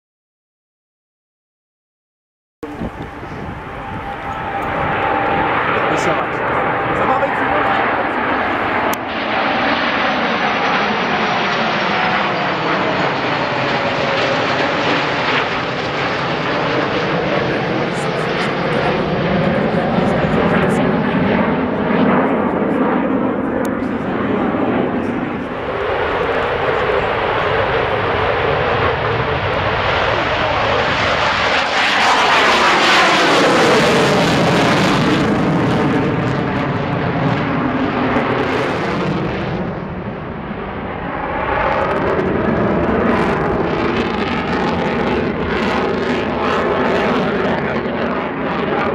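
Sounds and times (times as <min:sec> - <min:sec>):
aircraft engine rush with whine: 0:02.6 - 0:48.9.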